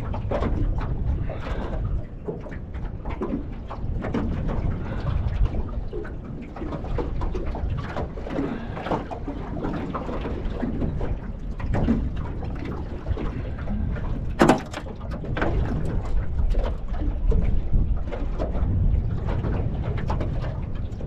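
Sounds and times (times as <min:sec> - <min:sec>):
water slapping against boat hull: 0:00.0 - 0:21.0
water splashes: 0:00.0 - 0:21.0
wind buffeting microphone: 0:00.0 - 0:21.0.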